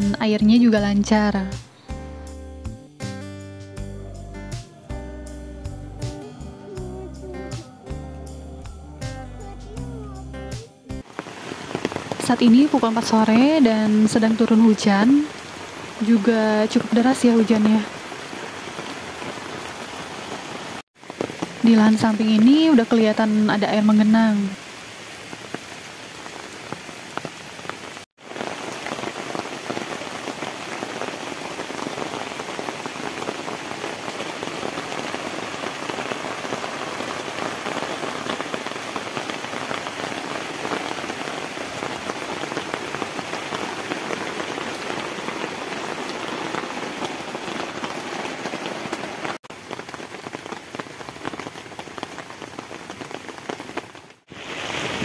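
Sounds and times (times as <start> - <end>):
heavy rain on ground: 9.7 - 55.0.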